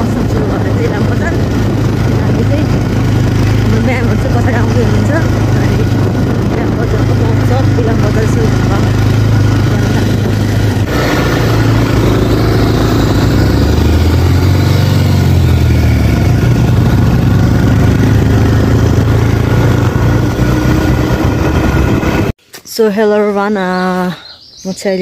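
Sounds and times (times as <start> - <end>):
wind rushing over microphone: 0.0 - 22.3
motorcycle engine running: 0.0 - 22.4.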